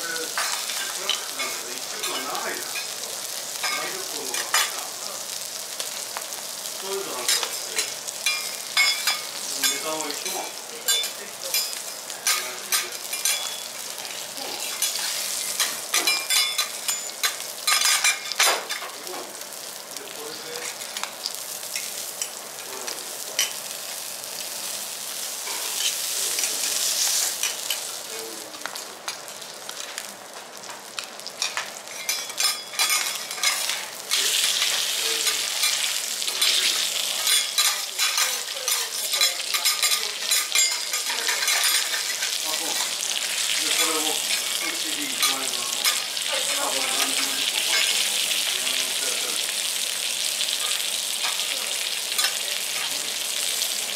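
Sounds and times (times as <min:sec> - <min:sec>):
fish sizzling on a griddle: 0:00.0 - 0:53.9.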